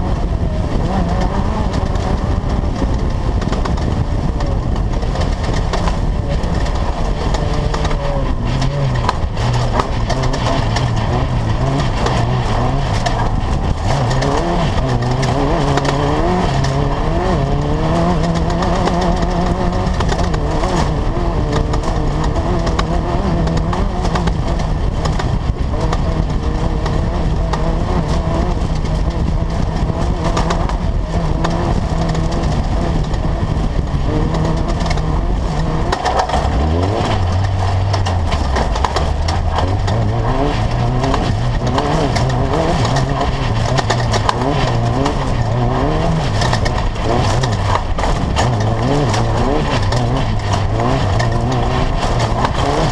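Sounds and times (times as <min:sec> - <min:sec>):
car knocking over rough ground: 0:00.0 - 0:52.9
race car engine revving: 0:00.0 - 0:52.9.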